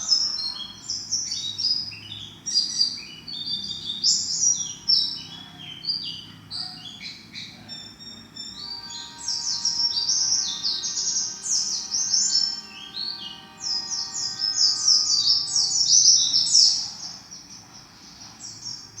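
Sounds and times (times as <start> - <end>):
bird twittering song: 0.0 - 19.0.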